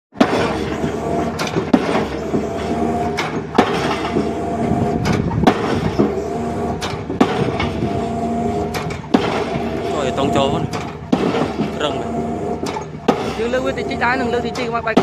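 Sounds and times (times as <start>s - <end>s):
excavator engine running: 0.1s - 15.0s.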